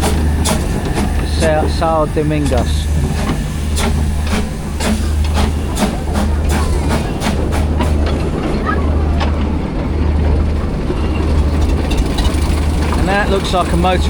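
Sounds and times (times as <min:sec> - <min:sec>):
train wheels clicking over rail joints: 0:00.0 - 0:14.0.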